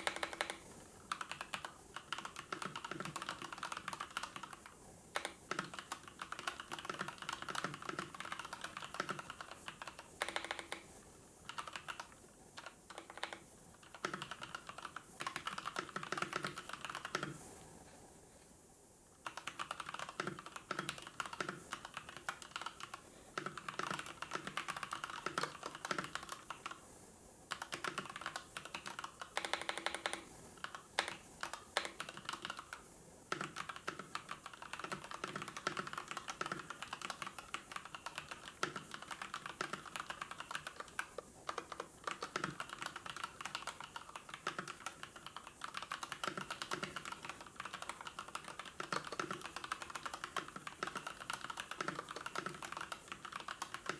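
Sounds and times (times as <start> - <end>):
computer keyboard typing: 0.0 - 17.5, 19.2 - 26.9, 27.5 - 53.9.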